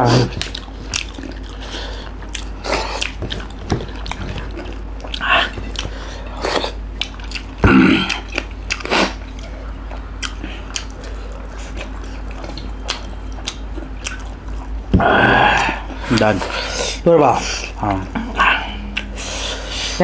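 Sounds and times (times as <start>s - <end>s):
biting and chewing food: 0.0s - 19.8s.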